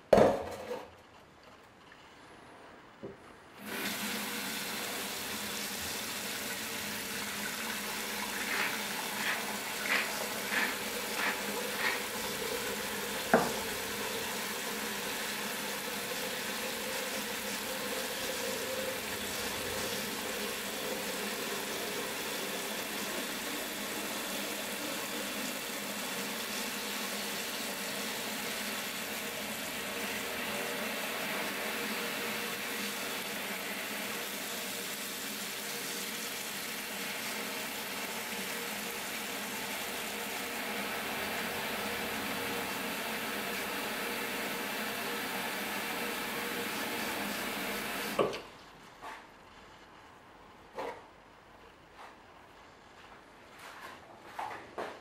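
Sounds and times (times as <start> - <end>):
tap water running into pot: 3.6 - 48.4.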